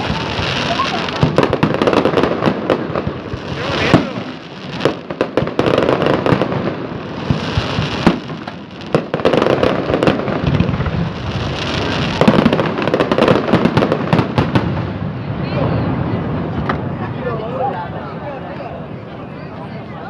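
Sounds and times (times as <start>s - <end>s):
loud firework bangs: 0.0s - 17.1s
fireworks crackling and popping: 0.0s - 17.2s.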